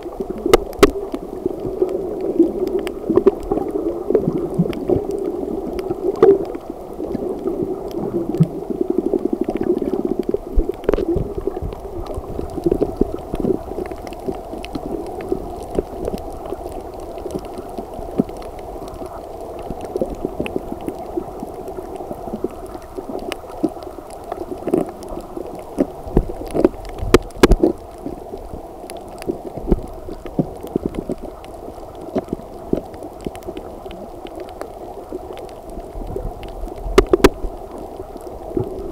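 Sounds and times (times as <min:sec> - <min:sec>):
muffled underwater water rush: 0:00.0 - 0:38.9
small underwater clicks and knocks: 0:00.0 - 0:38.9.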